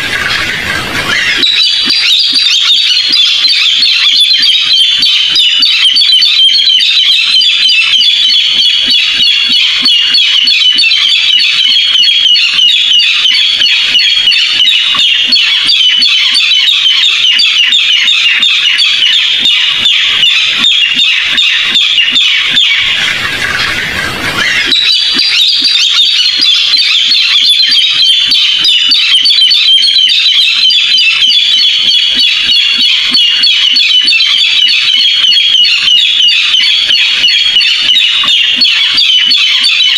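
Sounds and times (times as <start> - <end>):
barred rail calls: 0.0 - 39.9.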